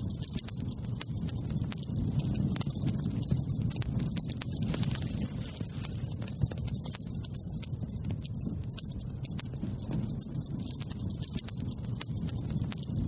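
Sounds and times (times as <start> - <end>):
campfire wood crackling: 0.0 - 13.0
low fire rumble: 0.0 - 13.0.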